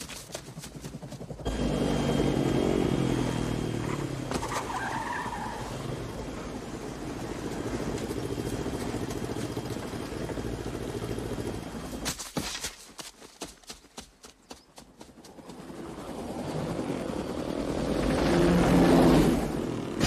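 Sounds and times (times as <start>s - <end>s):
helicopter: 0.0s - 4.7s, 5.9s - 12.1s, 14.3s - 20.0s
motorcycle and suv engines: 0.0s - 20.0s.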